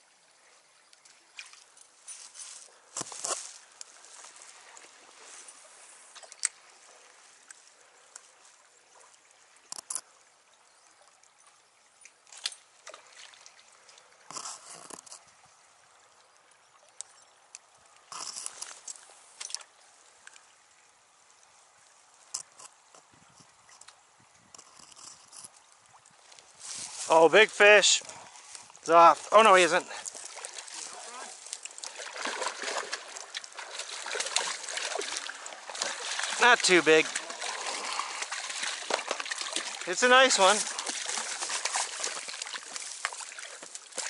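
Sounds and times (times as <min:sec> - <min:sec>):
river water flowing: 0:00.0 - 0:44.0.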